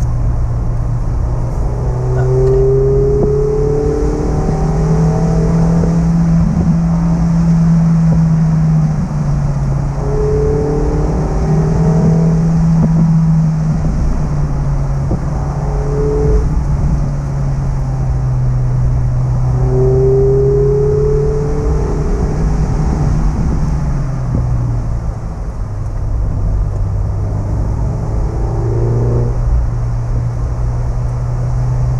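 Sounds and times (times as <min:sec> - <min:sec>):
car engine drone: 0:00.0 - 0:31.9
faint rising whine: 0:00.0 - 0:31.9.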